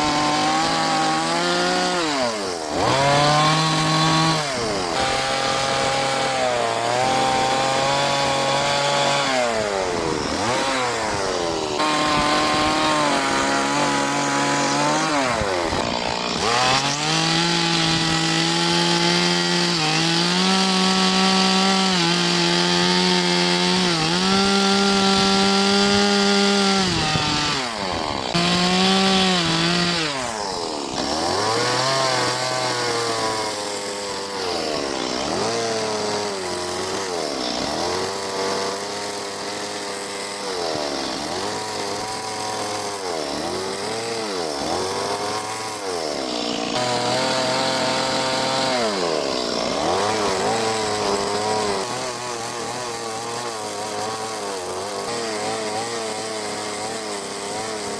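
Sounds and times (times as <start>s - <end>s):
chainsaw carving wood: 0.0s - 57.9s.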